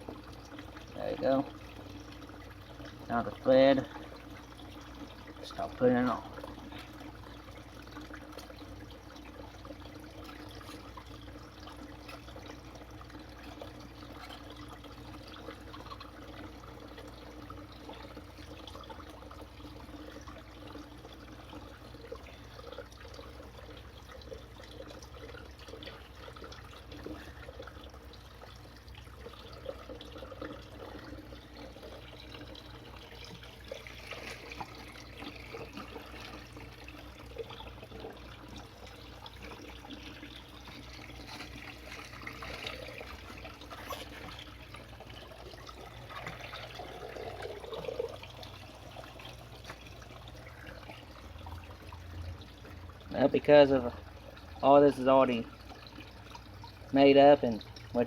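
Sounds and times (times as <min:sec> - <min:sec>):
low steady hum: 0:00.0 - 0:58.0
water trickling: 0:00.0 - 0:58.0.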